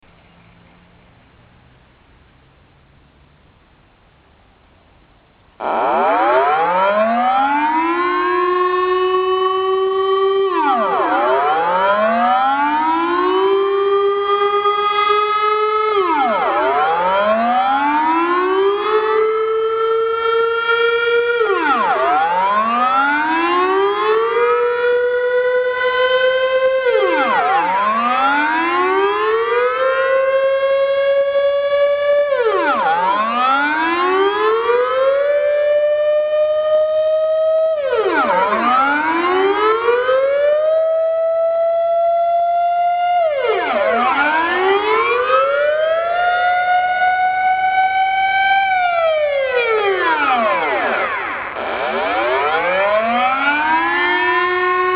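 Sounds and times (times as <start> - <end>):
rising and falling air-raid siren: 5.6 - 54.9.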